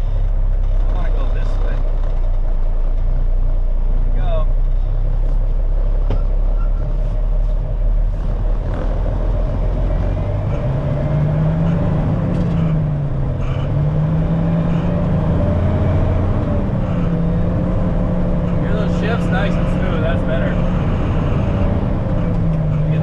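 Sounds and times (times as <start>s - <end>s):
truck diesel engine revving: 0.0s - 23.0s.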